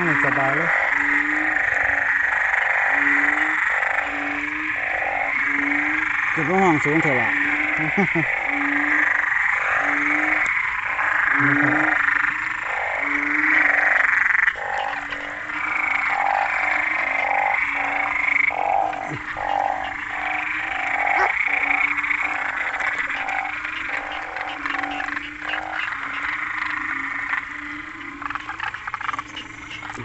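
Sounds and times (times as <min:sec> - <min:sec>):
frogs calling: 0:00.0 - 0:30.0
high-pitched frog chorus: 0:00.0 - 0:30.0.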